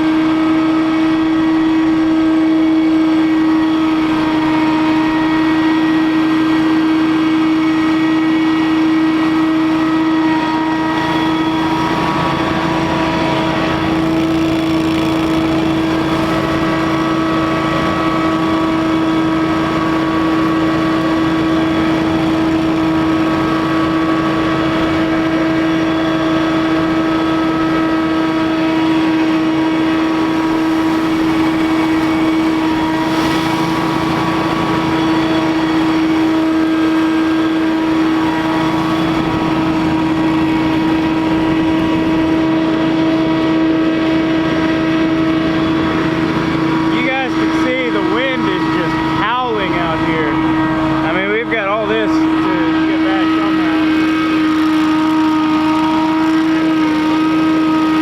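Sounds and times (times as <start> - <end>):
leaf blower running: 0.0 - 58.0.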